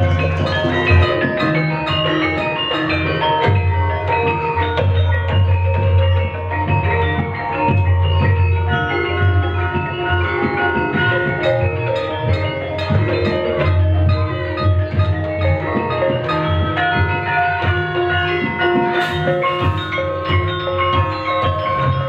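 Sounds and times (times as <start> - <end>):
metallophones ringing: 0.0 - 22.0.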